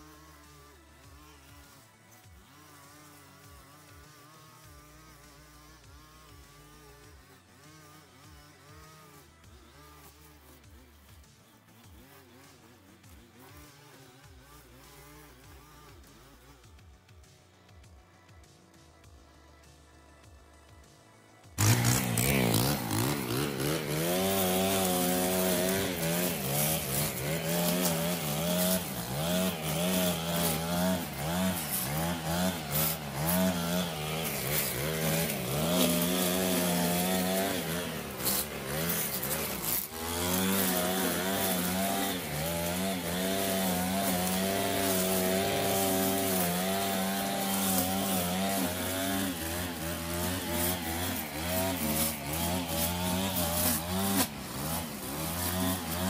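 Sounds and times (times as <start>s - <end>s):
string trimmer engine cutting grass: 0.0s - 56.0s.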